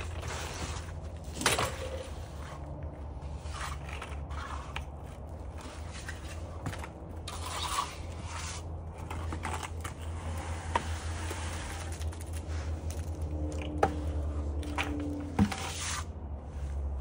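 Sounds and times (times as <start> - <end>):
tools scraping wet concrete: 0.0 - 16.1.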